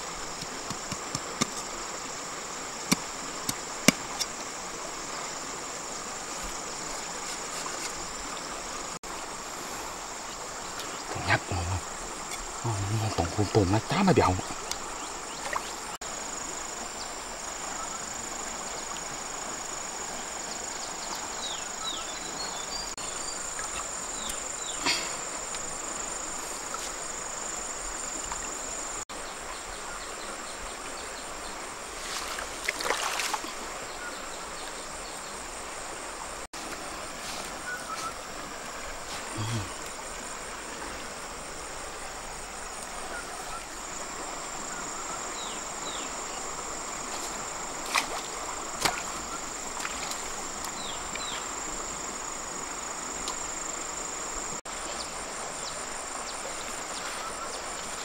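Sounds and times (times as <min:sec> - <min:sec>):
flowing river: 0:00.0 - 0:58.0
high insect trill: 0:00.0 - 0:58.0.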